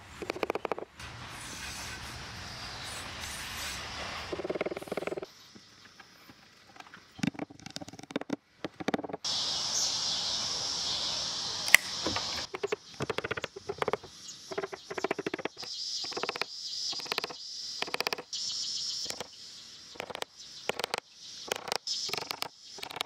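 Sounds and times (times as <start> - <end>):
high insect drone: 0.0 - 8.3, 9.0 - 23.0.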